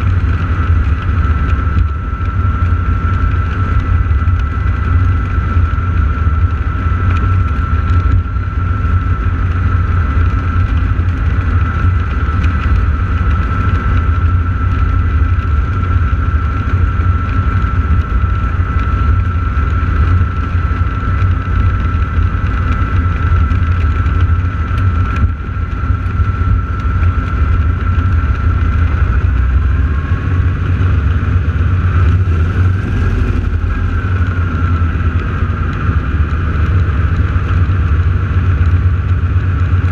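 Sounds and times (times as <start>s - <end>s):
high engine whine: 0.0s - 39.9s
piston aircraft engines running: 0.0s - 39.9s.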